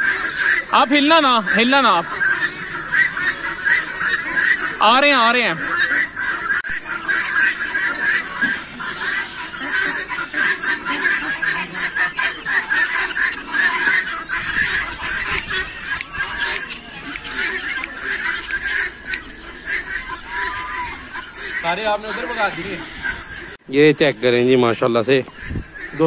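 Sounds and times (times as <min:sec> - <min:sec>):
guinea fowl calling: 0:00.0 - 0:26.0.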